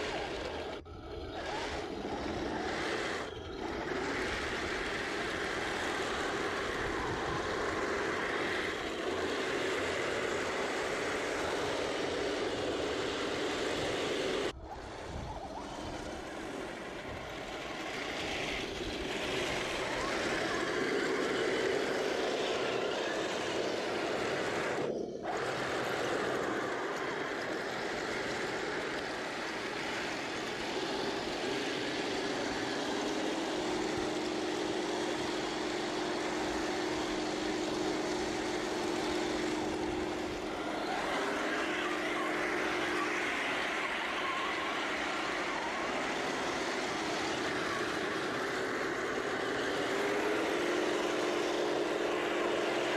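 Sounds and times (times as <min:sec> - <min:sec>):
steady droning tone: 0:00.0 - 0:52.9
toy tank motors and tracks: 0:00.0 - 0:52.9.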